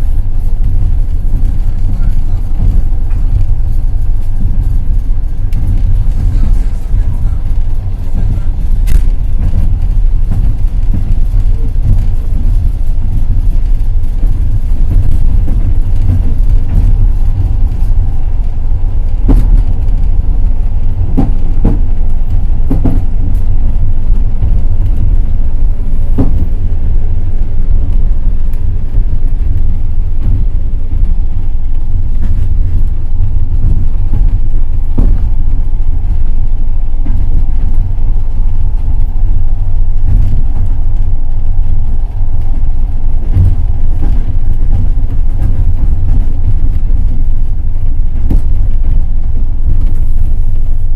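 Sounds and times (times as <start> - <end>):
train wheels rumbling: 0.0 - 50.9.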